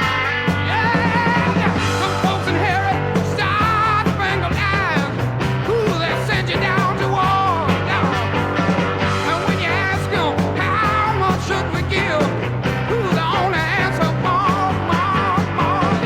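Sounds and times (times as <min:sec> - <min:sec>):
bass line: 0:00.0 - 0:16.0
rock music lead melody: 0:00.0 - 0:16.0.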